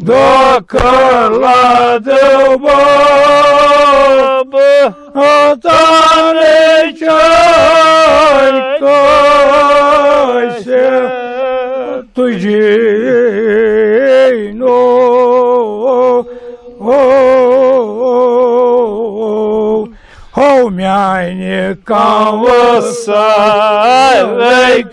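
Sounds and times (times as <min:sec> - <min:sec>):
man chanting unaccompanied: 0:00.0 - 0:24.9.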